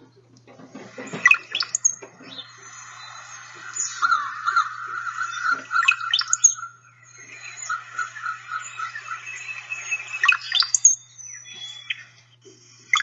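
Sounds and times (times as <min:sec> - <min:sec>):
bird song gurgles and whistles: 0:00.0 - 0:13.0
quick repeated bird notes: 0:00.9 - 0:12.2.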